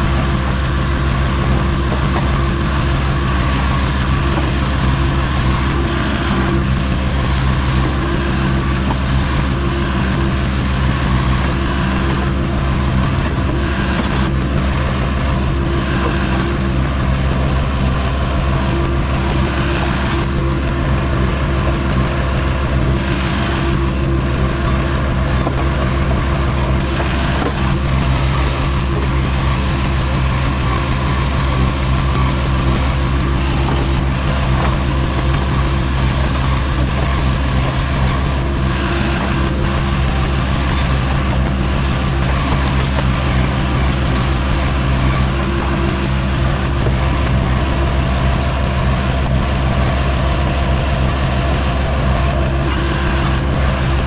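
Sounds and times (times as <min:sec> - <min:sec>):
loader engine running under load: 0:00.0 - 0:54.0.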